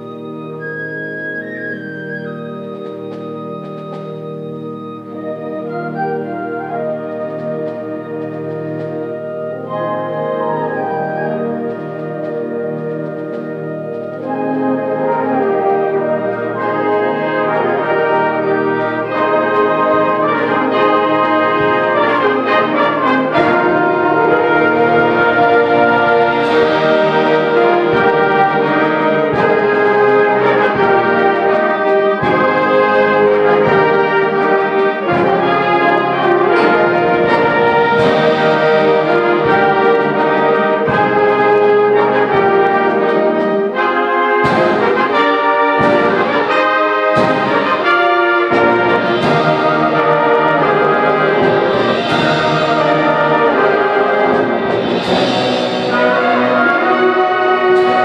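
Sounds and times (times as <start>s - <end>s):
wind band playing held chords: 0.0s - 58.0s.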